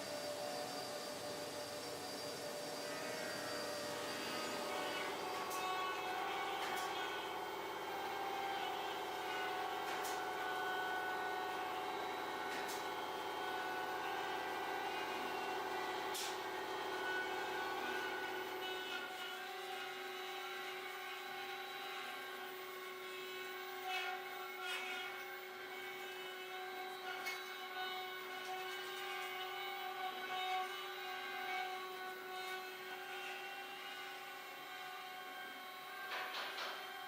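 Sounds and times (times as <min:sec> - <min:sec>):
cnc router cutting wood: 0:00.0 - 0:37.0.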